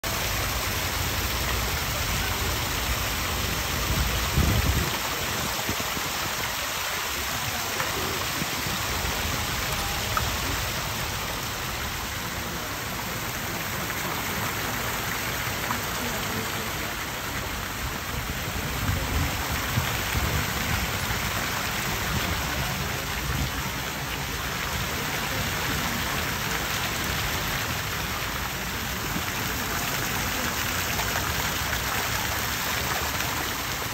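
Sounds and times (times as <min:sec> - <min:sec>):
fountain water splashing: 0:00.0 - 0:33.9.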